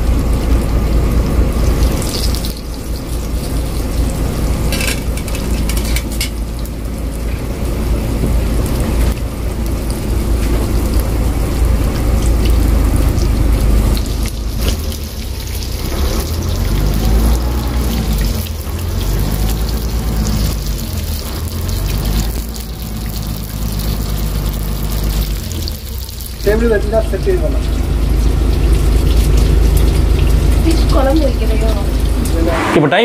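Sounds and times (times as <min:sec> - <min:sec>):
fish sizzling in hot oil: 0:00.0 - 0:32.4
low rumble: 0:00.0 - 0:33.0.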